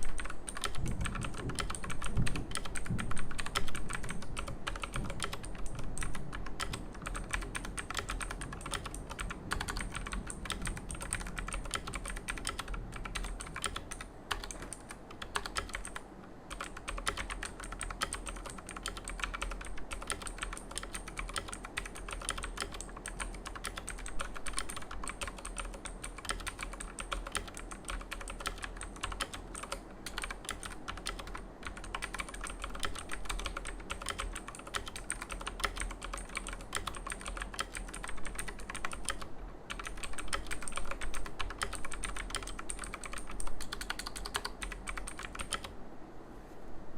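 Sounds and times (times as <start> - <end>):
typing on mechanical keyboard: 0.0 - 45.7.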